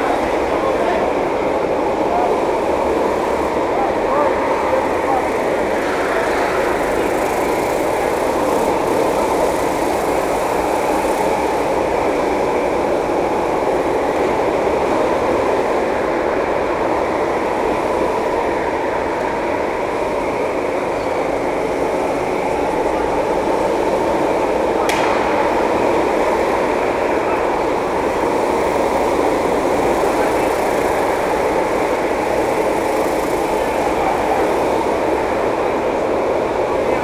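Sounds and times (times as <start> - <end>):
kart engine idling: 0.0 - 37.0.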